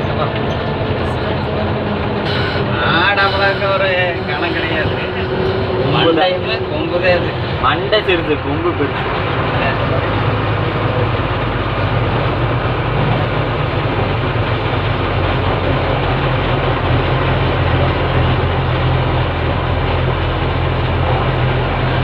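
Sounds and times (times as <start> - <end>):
lorry engine humming: 0.0 - 22.0.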